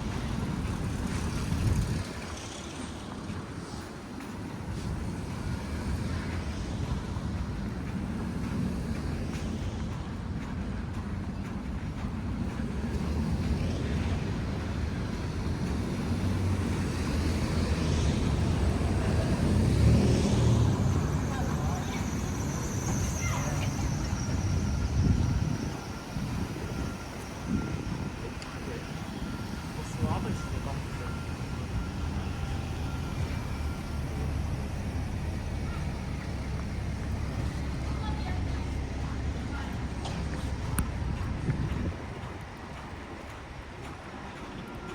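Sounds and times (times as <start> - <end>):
street traffic rumble: 0.0 - 44.9
vehicle approaching: 0.0 - 44.9.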